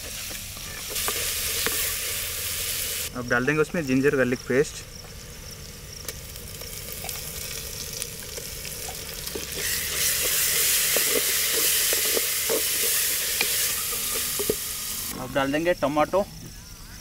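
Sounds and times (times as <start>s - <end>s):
onions frying in oil: 0.0s - 15.2s.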